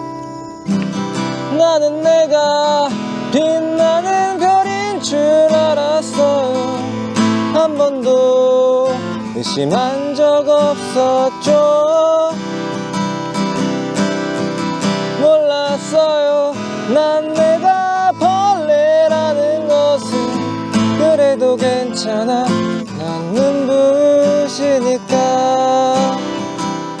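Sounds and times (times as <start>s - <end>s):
person singing: 0.0s - 13.0s, 14.8s - 27.0s
acoustic guitar strumming: 0.0s - 27.0s.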